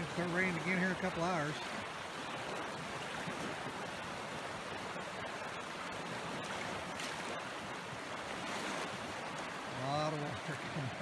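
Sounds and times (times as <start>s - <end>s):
water rushing in torrent: 0.0s - 11.0s.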